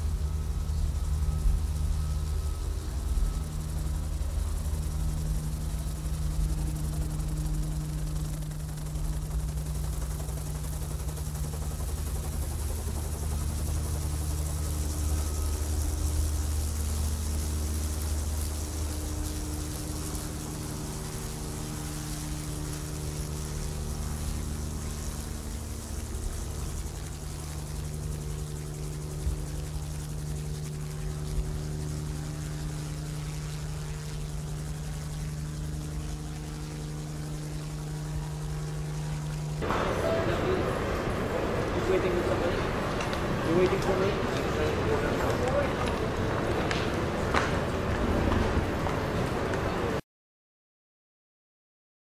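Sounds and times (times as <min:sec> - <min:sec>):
low engine drone: 0:00.0 - 0:50.0.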